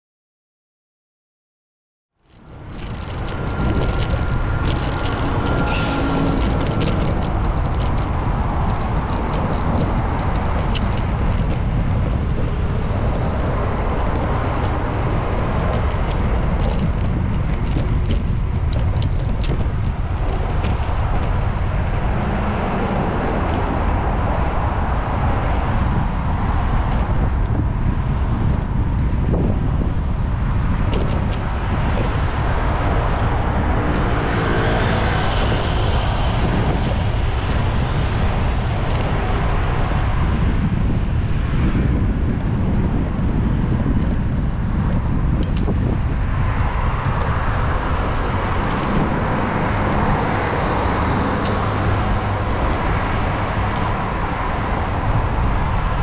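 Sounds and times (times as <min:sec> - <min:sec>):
wind on microphone: 0:02.2 - 0:56.0
cars passing: 0:02.3 - 0:56.0.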